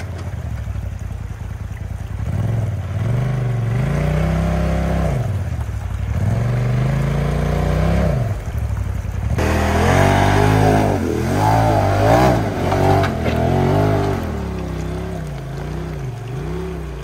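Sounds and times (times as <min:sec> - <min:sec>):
engine revving under load: 0:02.2 - 0:08.6, 0:09.3 - 0:17.0.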